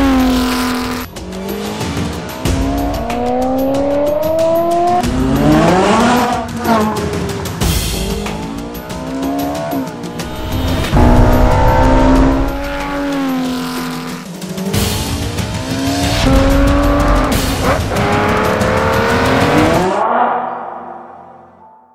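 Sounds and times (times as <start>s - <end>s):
sports car engine accelerating: 0.0s - 21.6s.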